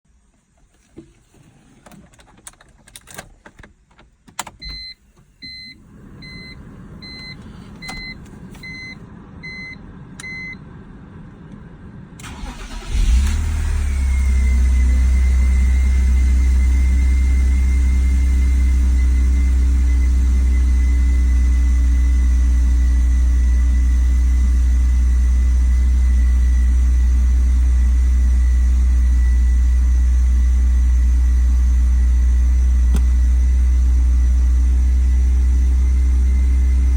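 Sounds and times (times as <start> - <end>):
car engine starting and idling: 0.3 - 36.9.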